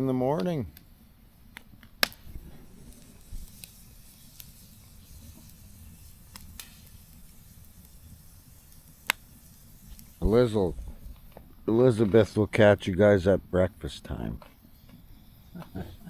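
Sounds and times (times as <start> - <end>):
campfire crackling and popping: 1.5 - 13.2, 13.8 - 16.0.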